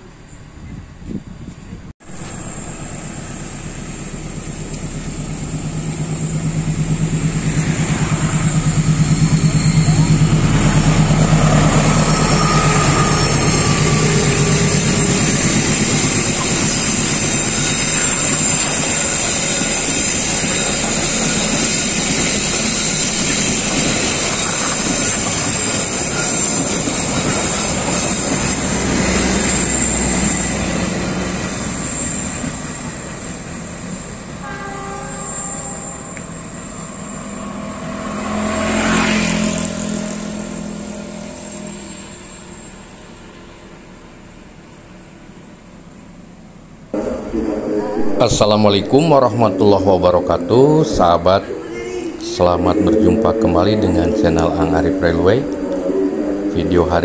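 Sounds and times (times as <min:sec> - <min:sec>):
diesel train rumbling past: 0:00.0 - 0:57.0.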